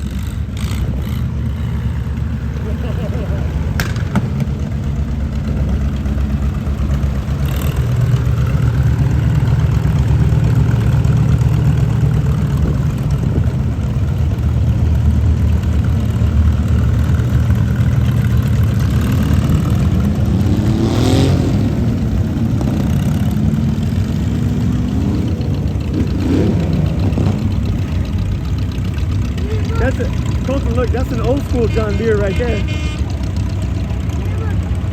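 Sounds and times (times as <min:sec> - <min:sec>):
tractor engines droning: 0:00.0 - 0:34.9.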